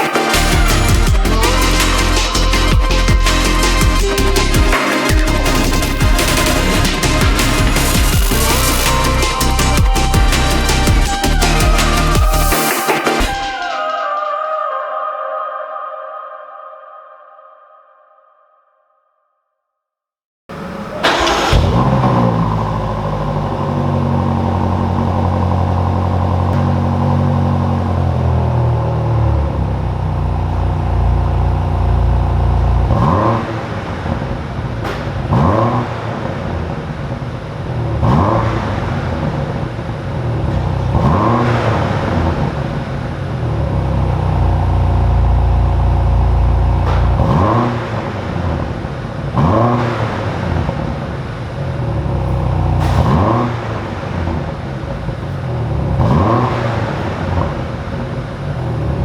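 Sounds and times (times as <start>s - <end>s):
car engine starting and idling: 0.0s - 12.7s, 20.5s - 59.0s
engine revving: 0.0s - 13.4s, 20.5s - 36.5s, 37.8s - 39.6s, 40.2s - 42.8s, 43.4s - 51.0s, 51.8s - 54.5s, 55.1s - 59.0s.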